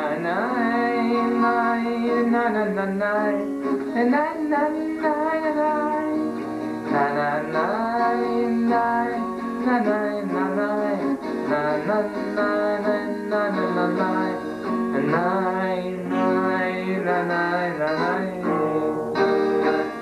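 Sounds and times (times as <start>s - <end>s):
acoustic guitar: 0.0s - 20.0s
man singing: 0.0s - 20.0s.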